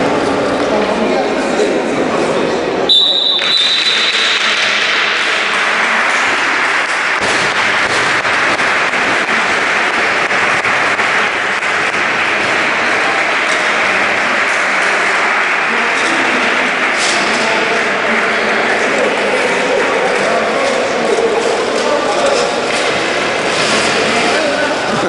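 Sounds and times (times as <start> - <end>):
crowd applauding: 3.2 - 25.0.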